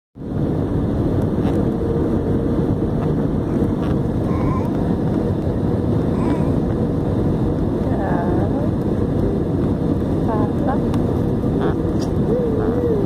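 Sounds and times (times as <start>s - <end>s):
airliner cabin engine rumble: 0.2s - 13.0s.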